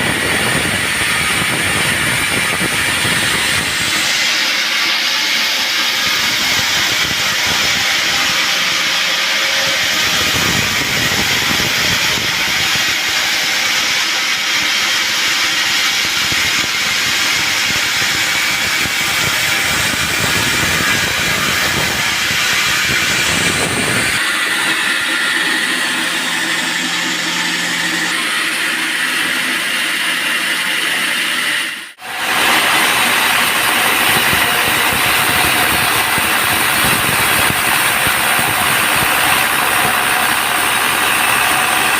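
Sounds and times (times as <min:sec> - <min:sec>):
band saw cutting log: 0:00.0 - 0:41.9
sawmill motor: 0:00.0 - 0:41.9.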